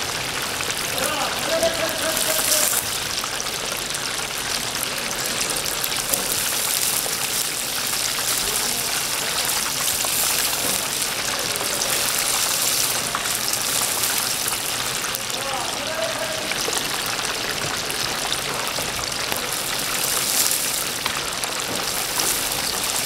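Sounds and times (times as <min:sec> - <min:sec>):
chicken deep-frying in oil: 0:00.0 - 0:23.0.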